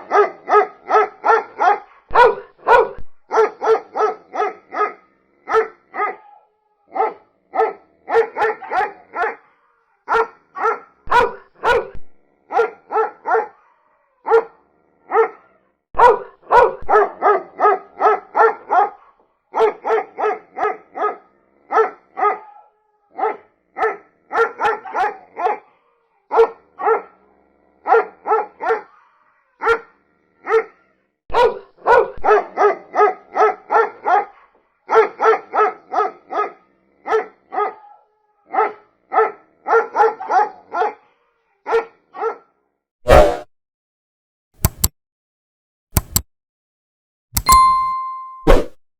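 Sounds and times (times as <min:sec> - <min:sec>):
dog barking: 0:00.0 - 0:43.5.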